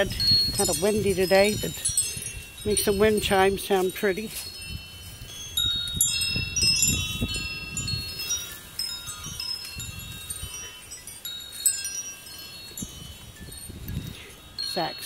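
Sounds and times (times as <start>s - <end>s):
wind chimes ringing: 0.0s - 15.0s
wind rumbling on microphone: 0.0s - 15.0s.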